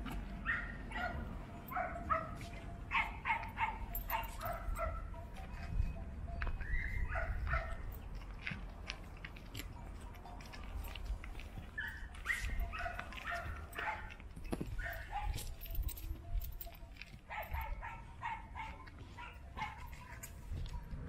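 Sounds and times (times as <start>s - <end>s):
dogs barking and yipping: 0.0s - 8.6s, 9.4s - 21.0s.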